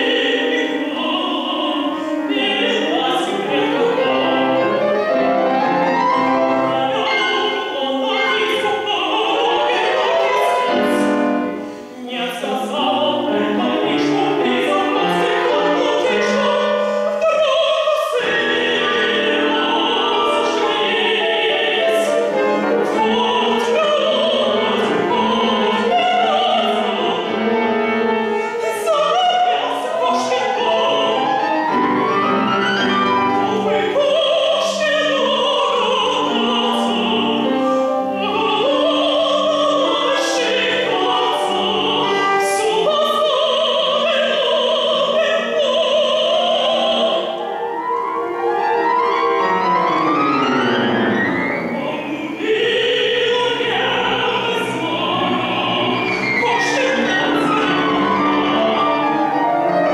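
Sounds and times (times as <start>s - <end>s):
woman singing operatically: 0.0s - 11.4s, 12.0s - 47.6s, 51.5s - 59.9s
piano accompaniment: 0.0s - 59.9s.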